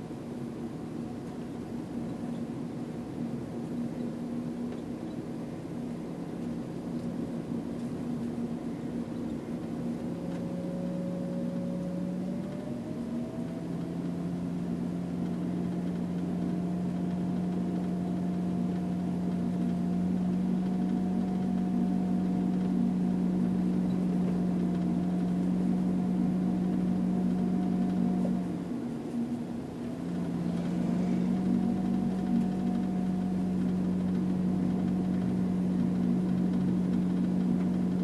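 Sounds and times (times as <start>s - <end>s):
car engine hum: 0.0s - 38.0s
high whine: 0.0s - 38.0s.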